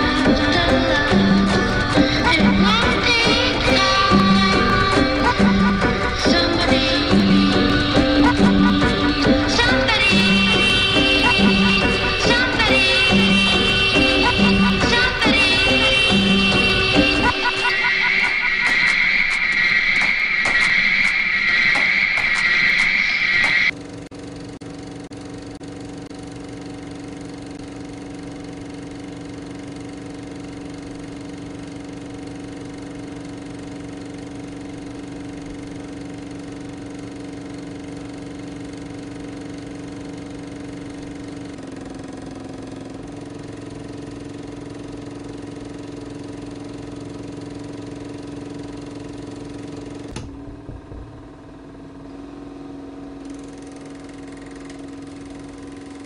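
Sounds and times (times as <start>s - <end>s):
machine-like drone: 0.0s - 56.0s.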